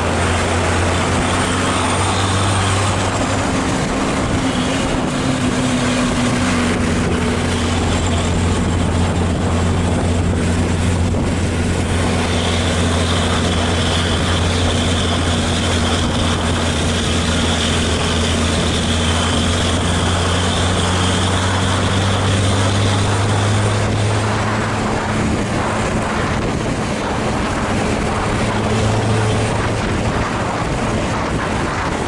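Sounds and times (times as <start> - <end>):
coach engine droning: 0.0 - 32.0
high whine: 0.0 - 32.0.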